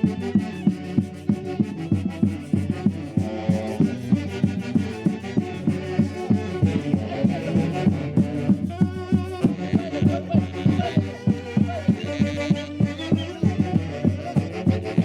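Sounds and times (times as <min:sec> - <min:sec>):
band playing a melody: 0:00.0 - 0:15.0
driving drumbeat: 0:00.0 - 0:15.0.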